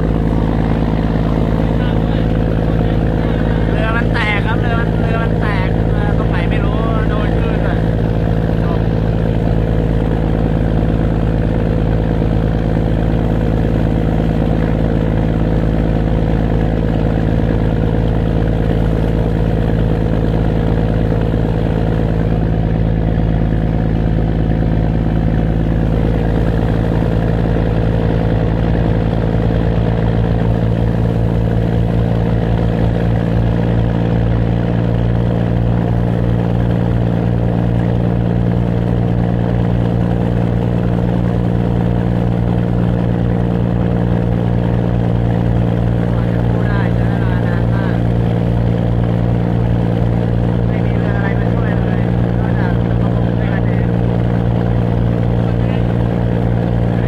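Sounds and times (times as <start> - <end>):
boat engine low drone: 0.0 - 57.0.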